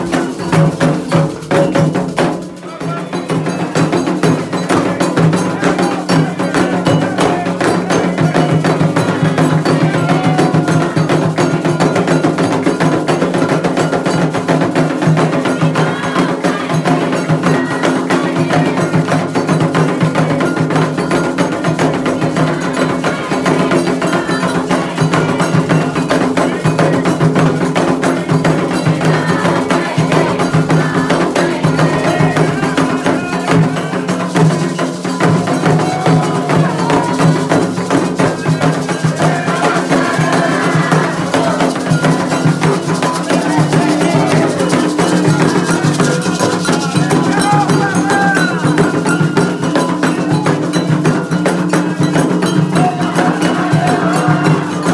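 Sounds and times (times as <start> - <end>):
hand drums playing: 0.0 - 54.9
struck bell: 0.0 - 54.9.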